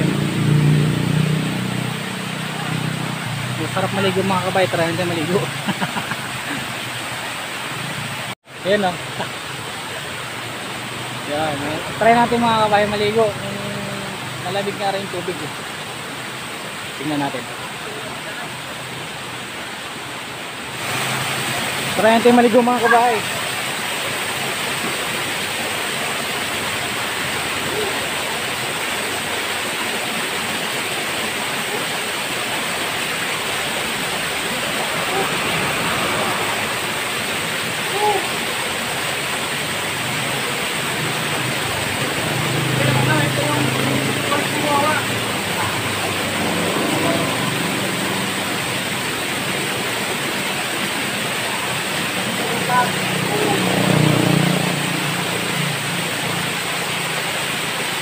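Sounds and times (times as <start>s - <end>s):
waterfall rushing into pool: 0.0s - 58.0s.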